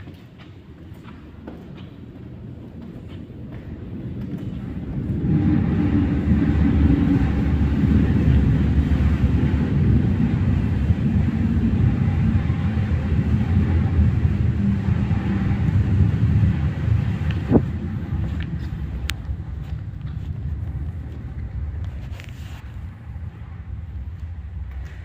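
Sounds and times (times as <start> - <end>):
loud low rumble: 3.3 - 25.0.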